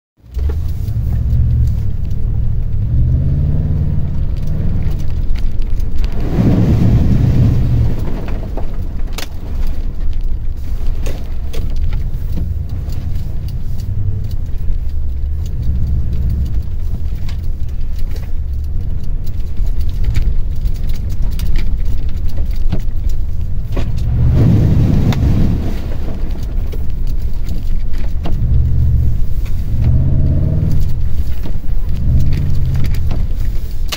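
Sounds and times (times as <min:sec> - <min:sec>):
knocks and rattles of truck: 0:00.2 - 0:33.9
truck engine running: 0:00.2 - 0:33.9.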